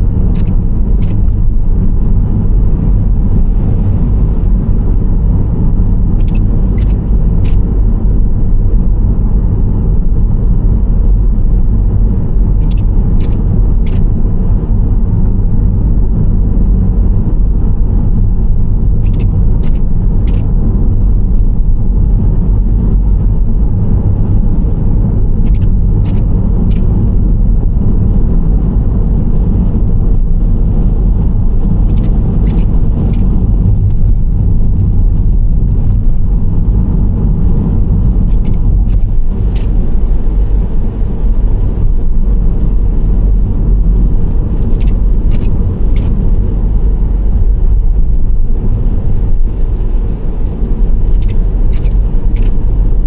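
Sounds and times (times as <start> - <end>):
minivan road and drivetrain noise: 0.0 - 53.0.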